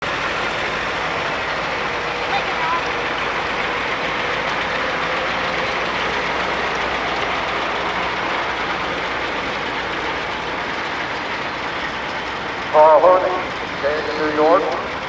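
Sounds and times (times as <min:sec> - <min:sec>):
tractor engines running: 0:00.0 - 0:15.0.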